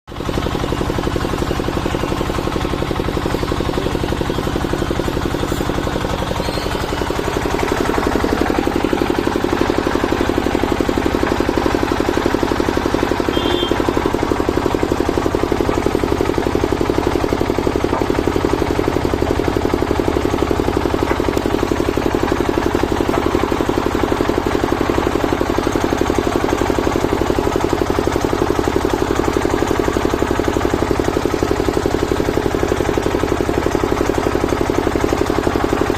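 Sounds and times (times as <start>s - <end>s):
diesel engine running: 0.1s - 35.9s.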